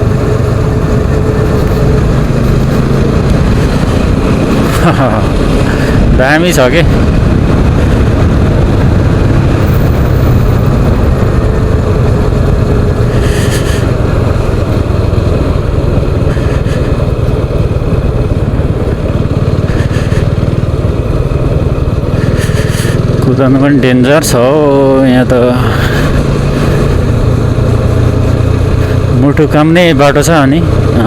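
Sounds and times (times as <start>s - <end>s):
motorcycle engine rumbling: 0.0s - 31.0s
rush of noise: 0.0s - 31.0s.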